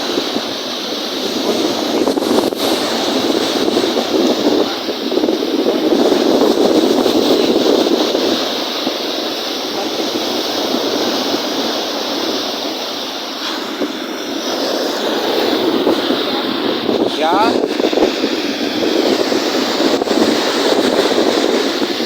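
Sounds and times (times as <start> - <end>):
lake waves: 0.0 - 22.0
strong wind: 0.0 - 22.0.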